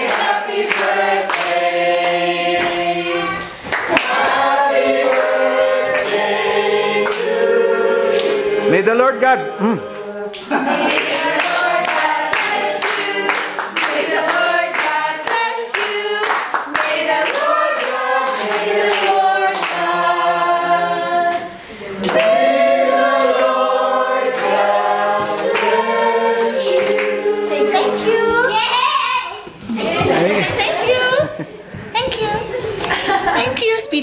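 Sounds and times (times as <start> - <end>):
people clapping: 0.0 - 8.7, 9.9 - 20.2, 20.9 - 29.0, 32.0 - 33.7
group of people singing: 0.0 - 31.2.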